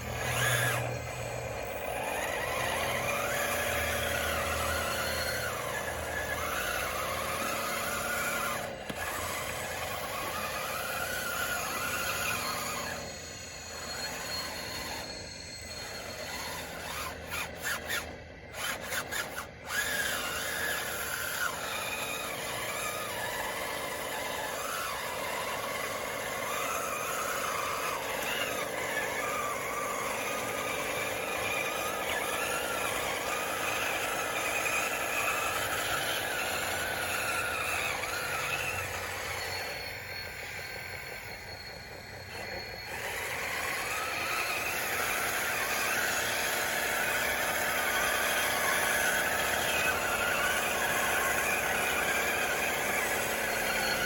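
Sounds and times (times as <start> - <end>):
toy bulldozer motors whining: 0.0 - 54.0.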